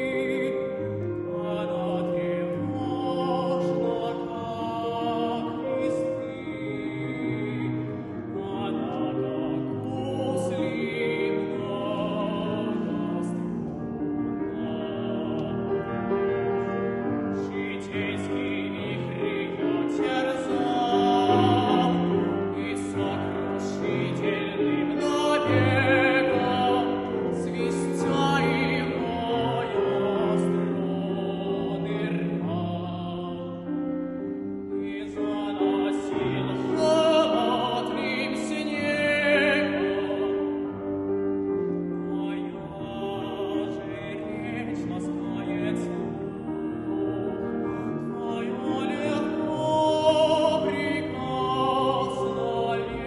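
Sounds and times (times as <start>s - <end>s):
piano accompaniment: 0.0s - 53.0s.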